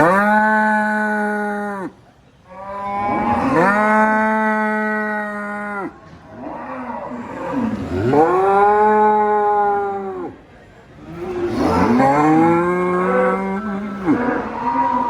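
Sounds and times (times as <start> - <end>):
cow mooing: 0.0 - 10.4, 11.0 - 15.0.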